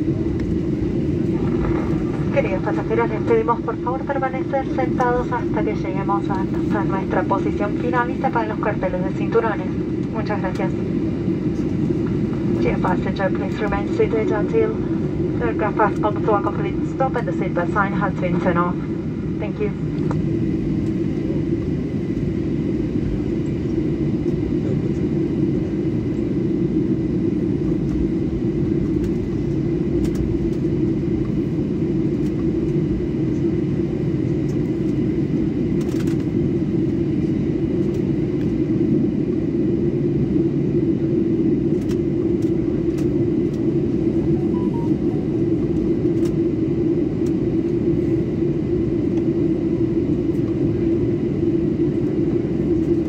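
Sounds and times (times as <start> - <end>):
airplane cabin rumble while taxiing: 0.0 - 53.0.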